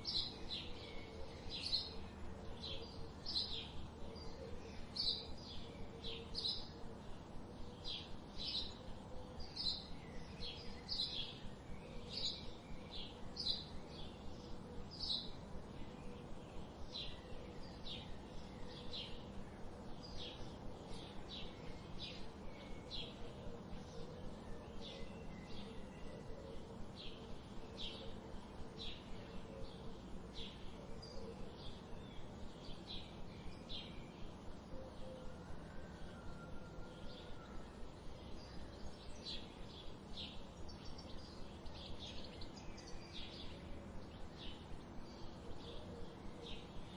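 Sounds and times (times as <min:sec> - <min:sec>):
bird chirping: 0:00.0 - 0:46.9
faint low hum: 0:00.0 - 0:46.9.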